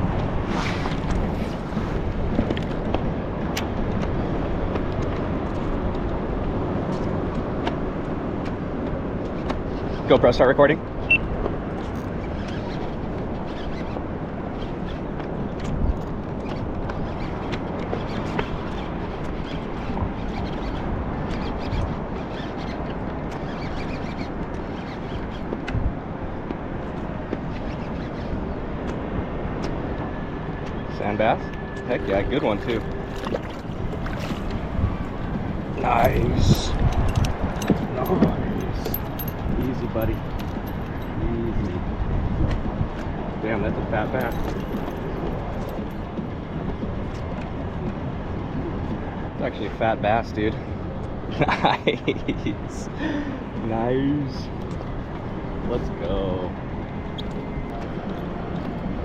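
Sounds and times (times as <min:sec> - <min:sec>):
low rumbling water and air noise: 0:00.0 - 0:59.0.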